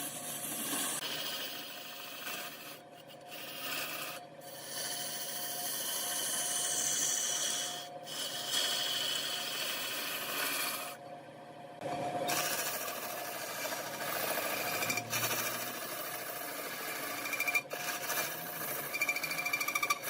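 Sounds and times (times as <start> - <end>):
lathe tool scraping wood: 0.0 - 11.0, 12.3 - 20.0
steady lathe hum: 0.0 - 11.0, 11.8 - 20.0.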